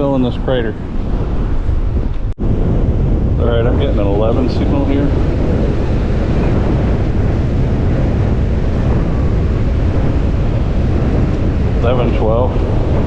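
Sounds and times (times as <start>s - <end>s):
surf: 0.0s - 13.0s
wind buffeting microphone: 0.0s - 13.0s.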